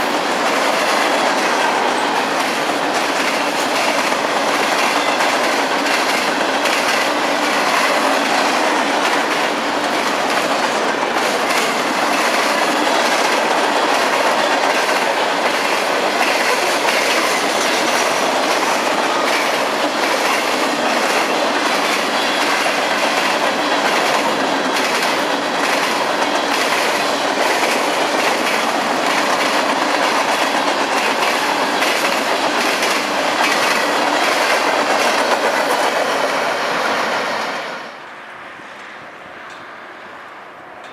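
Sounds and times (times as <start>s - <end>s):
wheels clacking over rail joints: 0.0s - 37.3s
freight train rumbling: 0.0s - 40.9s.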